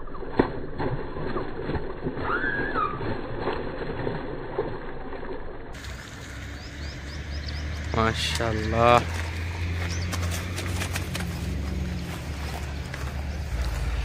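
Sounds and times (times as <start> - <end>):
fish splashing and thrashing: 0.0 - 14.0
water sloshing: 0.1 - 14.0.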